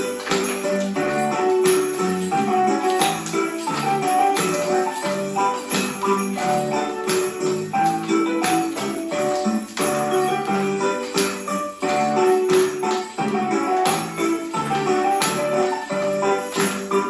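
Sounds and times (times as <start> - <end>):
children clapping: 0.0 - 17.0
children's song with bells: 0.0 - 17.0.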